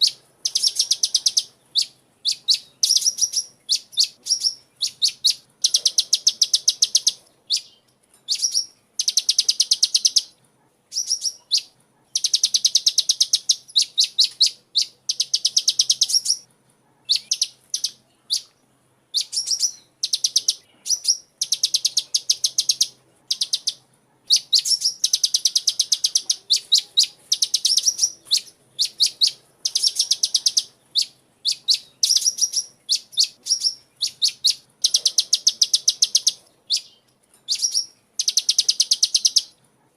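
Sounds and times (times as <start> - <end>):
sunbird chirping: 0.0 - 39.6.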